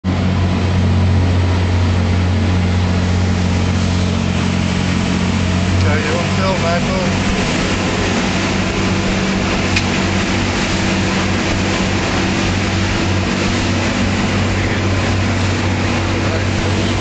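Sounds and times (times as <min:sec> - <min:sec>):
boat engines droning: 0:00.0 - 0:17.0
water rushing against hull: 0:00.0 - 0:17.0.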